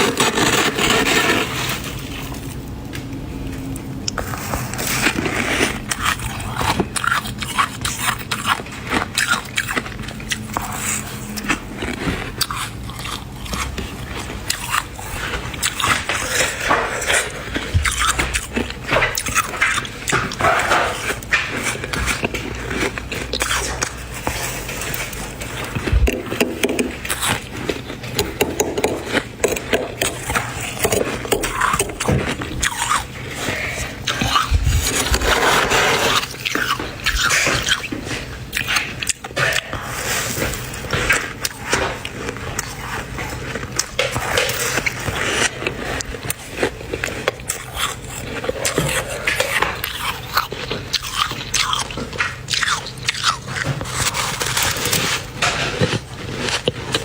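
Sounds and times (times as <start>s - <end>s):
spoon scraping frost: 0.0s - 2.6s, 3.8s - 57.0s
frost crunching: 0.0s - 57.0s.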